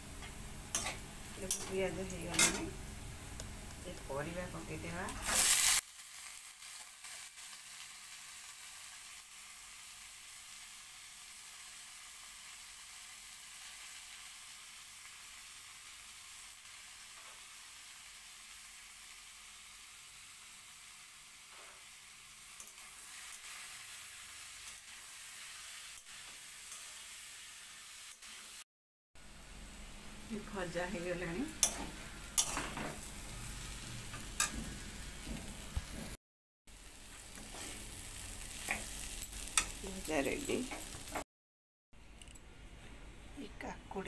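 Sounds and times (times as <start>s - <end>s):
vegetables sizzling in hot oil: 0.0s - 28.6s, 29.2s - 41.2s.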